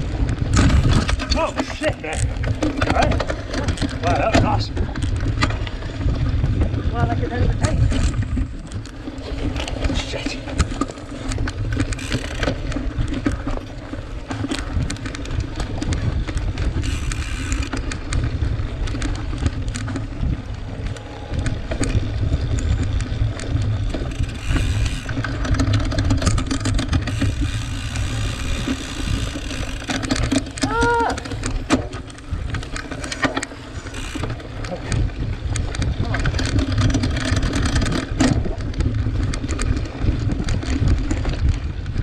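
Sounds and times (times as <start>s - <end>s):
bike rattling and clicking: 0.0s - 42.0s
wind rumble on microphone: 0.0s - 42.0s.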